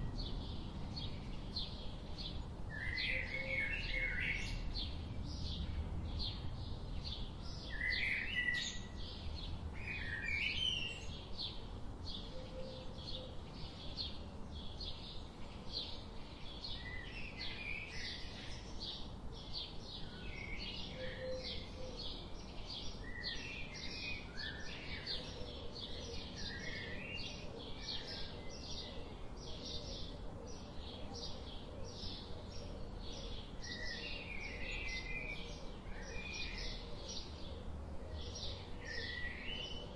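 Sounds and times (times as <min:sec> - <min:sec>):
low background hiss: 0:00.0 - 0:39.9.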